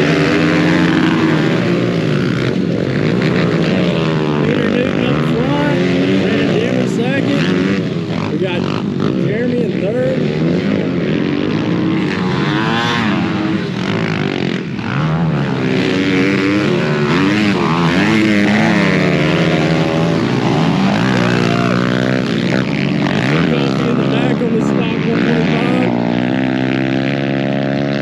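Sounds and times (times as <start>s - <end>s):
pit bike engines revving: 0.0s - 28.0s.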